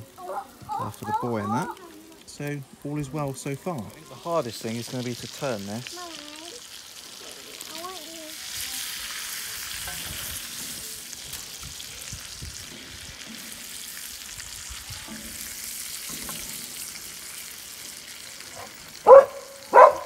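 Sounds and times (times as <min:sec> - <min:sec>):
fish sizzling in oil: 0:00.0 - 0:20.0.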